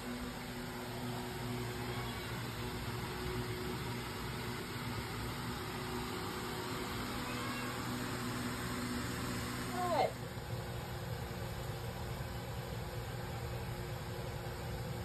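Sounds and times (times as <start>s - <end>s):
low machine hum with hiss: 0.0s - 15.0s.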